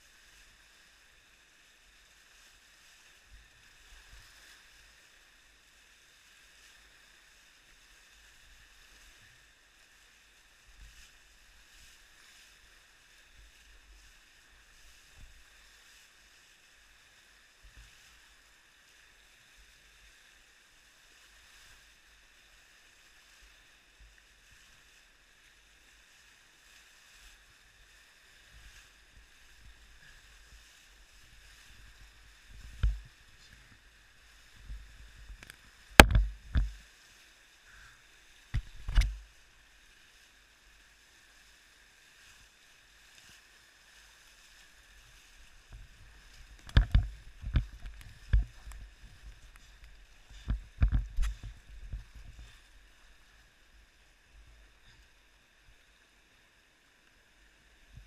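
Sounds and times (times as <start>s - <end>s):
waves slapping a kayak: 0.0s - 58.0s.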